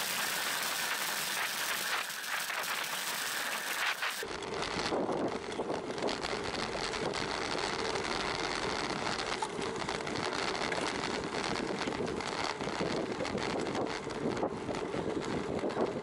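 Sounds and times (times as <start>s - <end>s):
wind on microphone: 0.0s - 7.4s, 8.7s - 16.0s
bicycle tyres rolling on tarmac: 0.0s - 16.0s
faint mechanical rattle: 0.0s - 16.0s.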